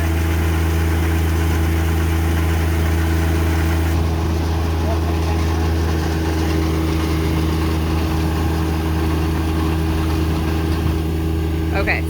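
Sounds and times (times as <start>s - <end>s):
tractor engine running steadily: 0.0s - 12.0s.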